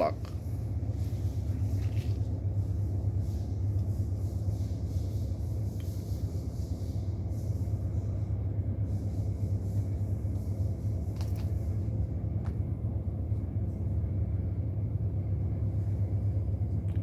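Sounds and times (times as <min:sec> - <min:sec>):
low machinery drone: 0:00.0 - 0:17.0.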